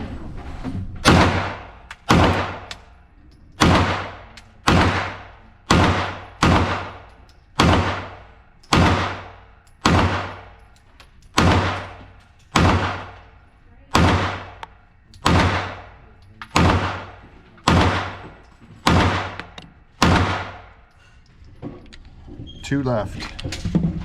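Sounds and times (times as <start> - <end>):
pistol shots echoing: 1.0 - 3.0, 3.6 - 20.9.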